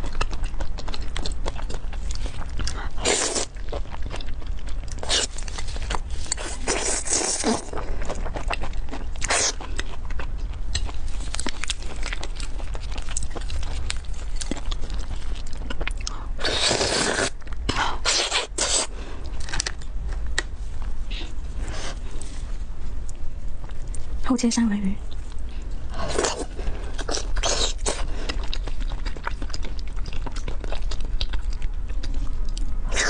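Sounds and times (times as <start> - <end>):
chewing: 0.0 - 22.4, 25.0 - 33.0.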